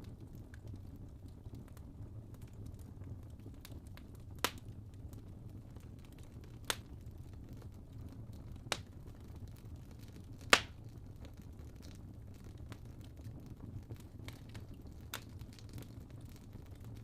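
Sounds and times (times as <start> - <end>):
flames roaring: 0.0 - 17.0
log crackles and pops: 0.0 - 17.0.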